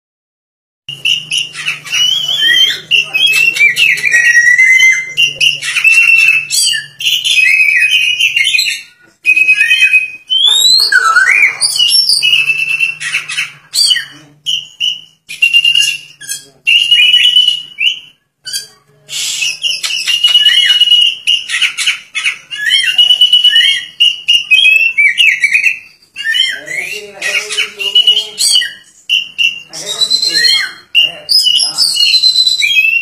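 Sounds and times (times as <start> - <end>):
bird singing whistled notes: 0.9 - 33.0.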